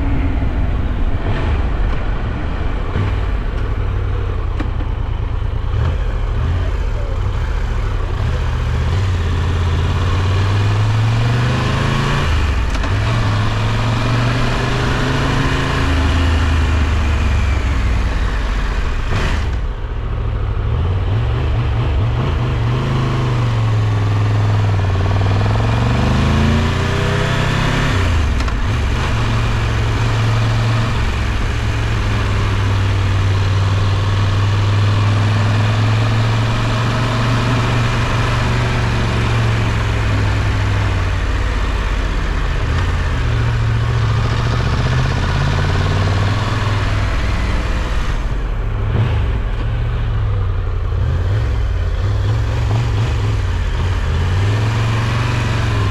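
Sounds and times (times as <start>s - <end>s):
motorcycle engine running: 0.0s - 11.2s, 11.8s - 55.9s.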